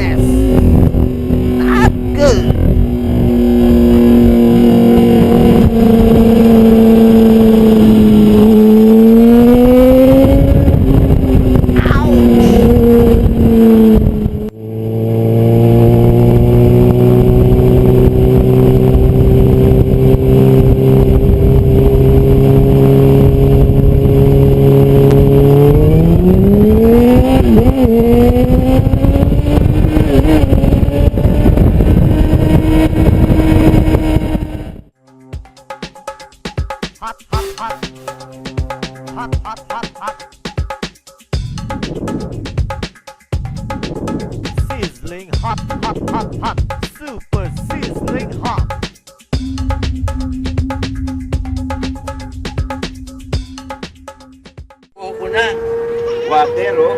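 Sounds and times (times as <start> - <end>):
motorcycle engine revving: 0.0 - 35.5, 43.4 - 56.9.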